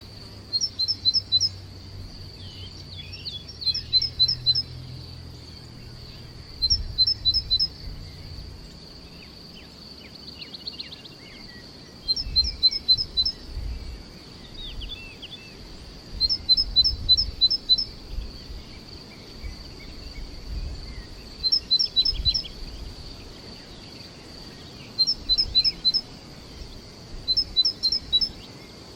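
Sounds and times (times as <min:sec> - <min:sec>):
faint bird chirps: 0:00.0 - 0:28.9
songbird singing high clear notes: 0:00.4 - 0:28.9.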